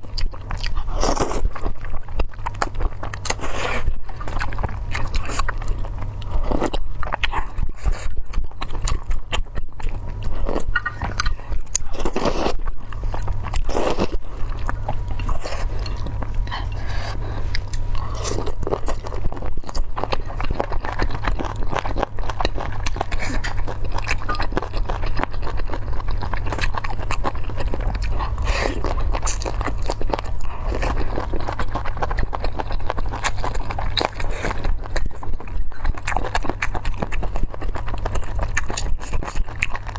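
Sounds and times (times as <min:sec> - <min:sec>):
chewing and biting food: 0:00.0 - 0:39.9.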